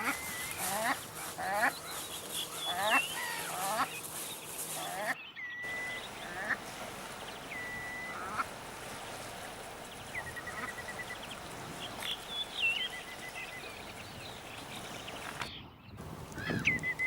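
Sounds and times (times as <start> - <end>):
bird calling: 0.0 - 8.5, 9.9 - 15.5.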